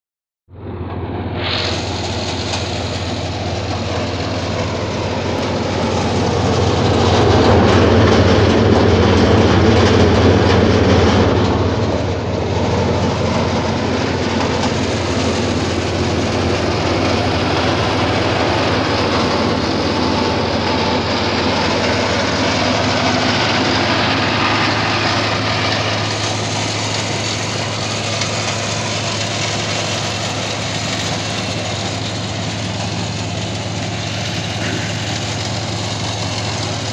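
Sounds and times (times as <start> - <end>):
wood chipper engine humming: 0.6 - 36.9.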